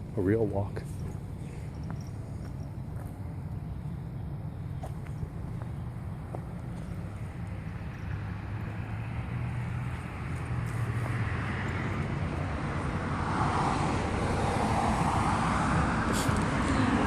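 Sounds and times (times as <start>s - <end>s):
vehicle approaching rumble: 0.0s - 17.0s.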